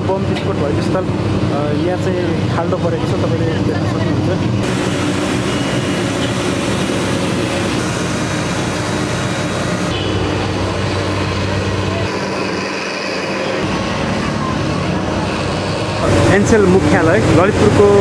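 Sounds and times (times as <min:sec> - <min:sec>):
street background: 0:00.0 - 0:18.0
street sweeper engine humming: 0:00.0 - 0:18.0.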